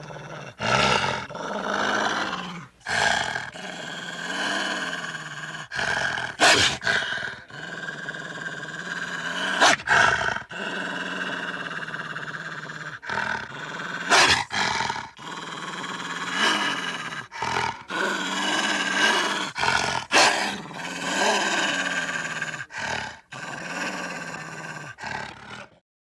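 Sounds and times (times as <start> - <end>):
wolf growling: 0.0 - 25.8
wolf snarling: 0.0 - 25.8.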